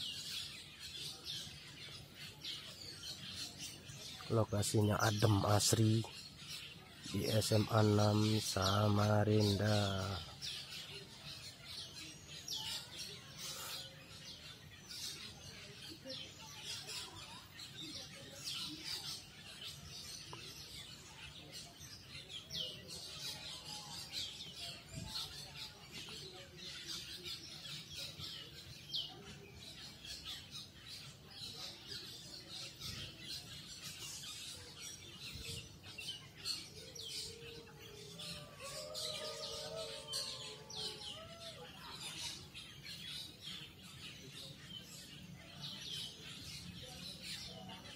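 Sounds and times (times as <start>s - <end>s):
flock of birds chirping: 0.0s - 47.9s.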